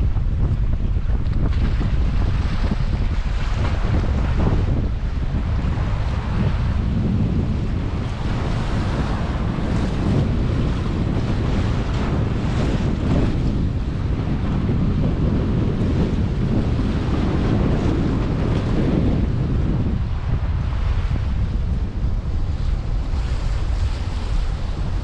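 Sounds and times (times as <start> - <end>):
choppy sea water rushing: 0.0 - 25.0
wind buffeting microphone: 0.0 - 25.0.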